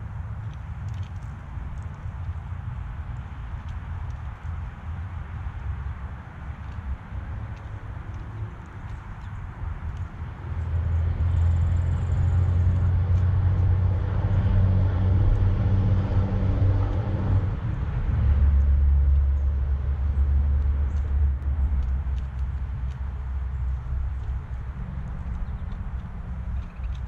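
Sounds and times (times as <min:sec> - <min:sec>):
low vehicle engine rumble: 0:00.0 - 0:27.0.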